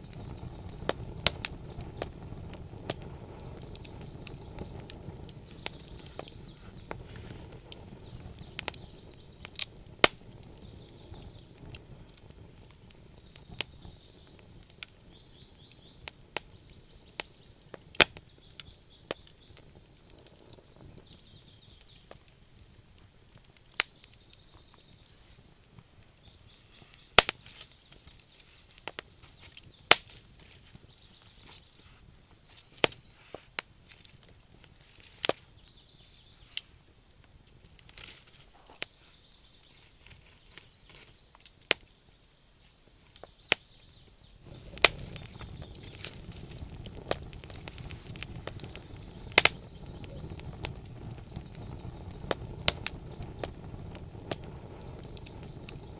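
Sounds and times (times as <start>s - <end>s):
low rushing of flames: 0.0s - 55.9s
wood fire crackling and popping: 0.0s - 55.9s.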